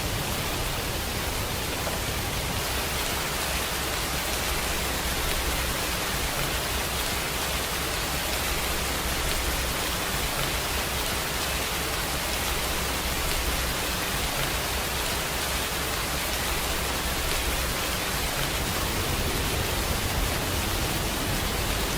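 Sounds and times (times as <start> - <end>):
steady rainfall: 0.0 - 21.9.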